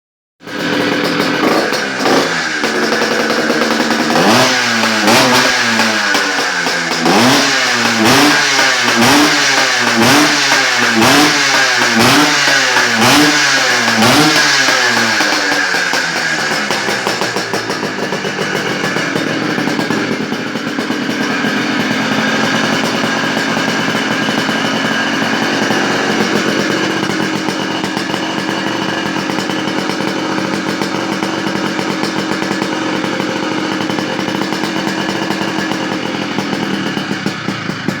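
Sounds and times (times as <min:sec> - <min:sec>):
motorcycle engine revving: 0:00.4 - 0:38.0.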